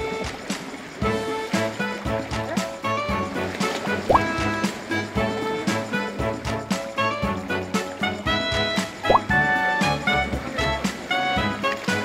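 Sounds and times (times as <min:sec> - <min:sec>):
melodic music with percussive beat: 0:00.0 - 0:12.0.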